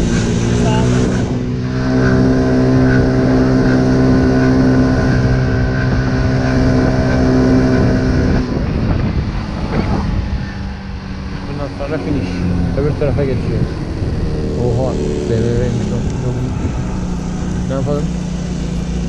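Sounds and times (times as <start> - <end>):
scooter engine droning: 0.0 - 19.0.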